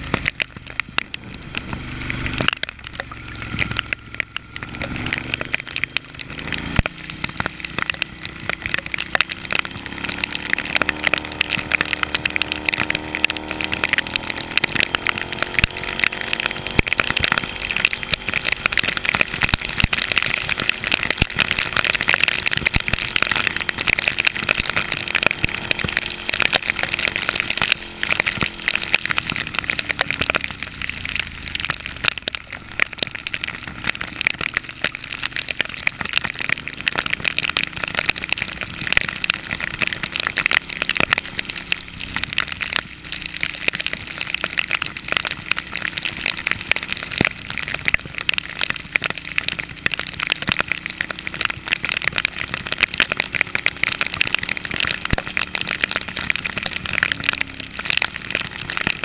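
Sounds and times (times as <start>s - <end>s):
heavy rain pelting camera: 0.0s - 59.0s
motorcycle engine running: 0.0s - 59.0s.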